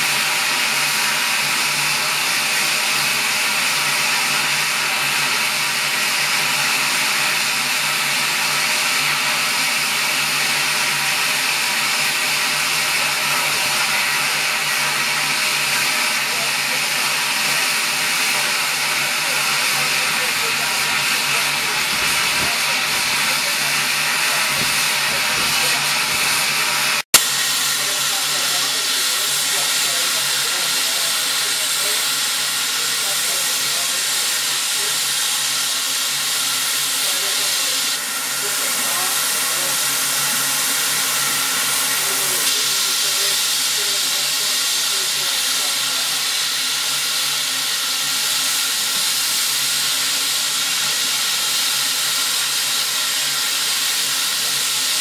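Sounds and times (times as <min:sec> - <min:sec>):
steam hissing from locomotive: 0:00.0 - 0:55.0.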